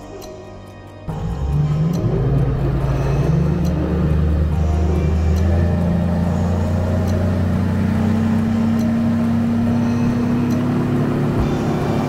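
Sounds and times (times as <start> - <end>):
outboard motor drone: 1.1 - 12.0.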